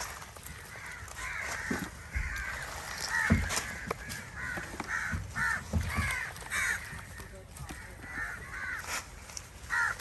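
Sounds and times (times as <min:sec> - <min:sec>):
crows cawing: 0:00.0 - 0:10.0.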